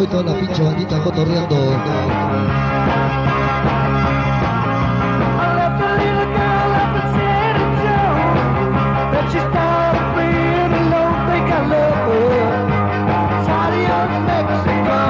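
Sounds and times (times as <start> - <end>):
rock and roll band music: 0.0 - 15.0
steady bass line: 0.0 - 15.0.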